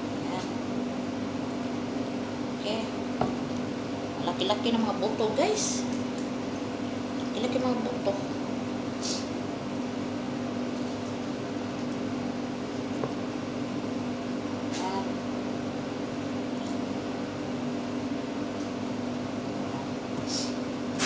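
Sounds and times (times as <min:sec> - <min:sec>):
kitchen fan humming: 0:00.0 - 0:21.0.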